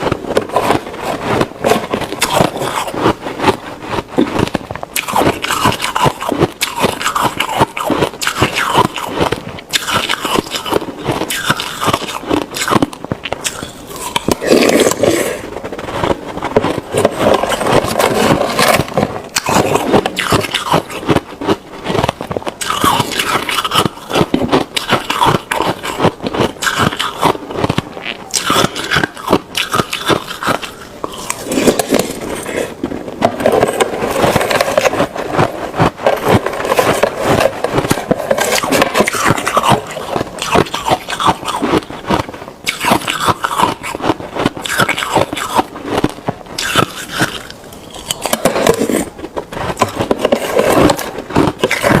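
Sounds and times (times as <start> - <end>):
person crunching ice: 0.0 - 52.0.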